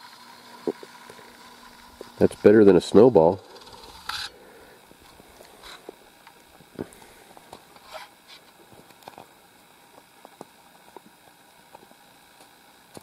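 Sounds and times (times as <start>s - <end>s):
rustles: 0.0s - 13.0s.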